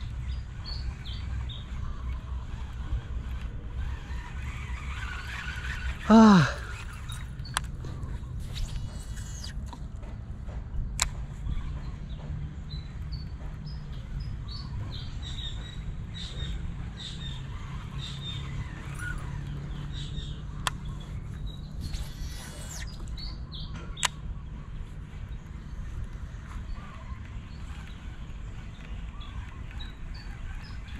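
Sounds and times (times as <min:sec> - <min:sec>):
birds chirping: 0:00.0 - 0:10.2, 0:11.2 - 0:30.9.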